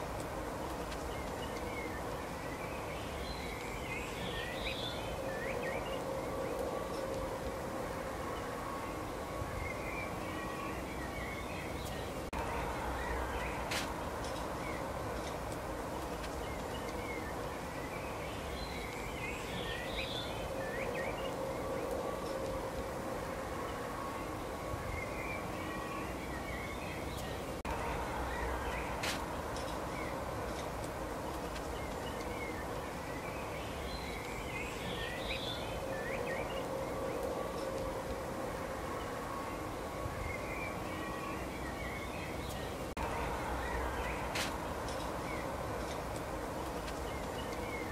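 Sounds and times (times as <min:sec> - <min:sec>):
background hiss: 0:00.0 - 0:47.9
birds chirping: 0:00.0 - 0:47.9
faint hum: 0:00.0 - 0:47.9
low outdoor rumble: 0:00.0 - 0:47.9
songbirds twittering: 0:00.0 - 0:47.9.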